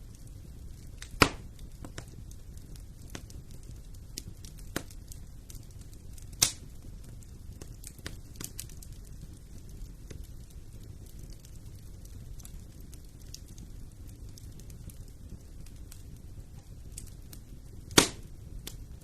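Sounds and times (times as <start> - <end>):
fire crackling in fireplace: 0.0 - 19.0
loud sharp pops of fire: 0.0 - 19.0.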